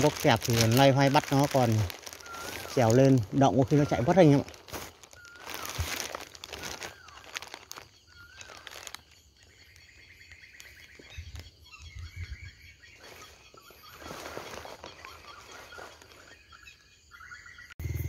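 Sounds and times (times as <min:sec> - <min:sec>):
leaves rustling: 0:00.0 - 0:16.9
insect trill: 0:00.0 - 0:18.0.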